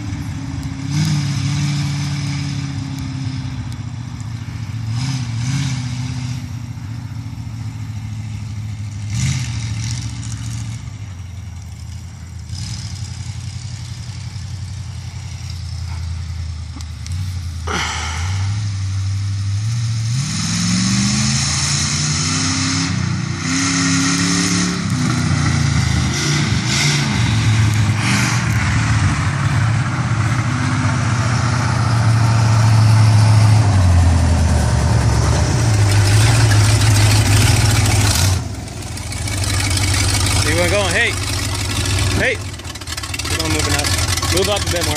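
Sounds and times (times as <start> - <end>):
truck engine revving: 0.0 - 44.9.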